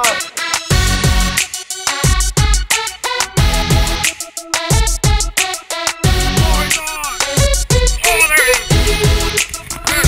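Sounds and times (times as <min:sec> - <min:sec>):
band music with choppy beat: 0:00.0 - 0:10.0.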